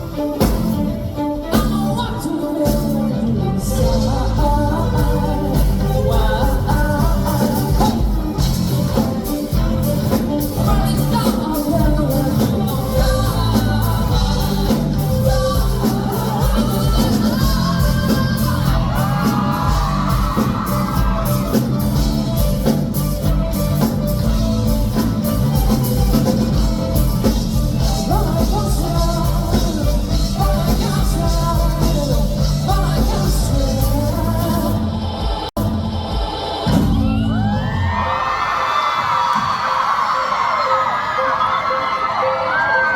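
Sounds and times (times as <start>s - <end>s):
live rock band with singer: 0.0s - 42.9s.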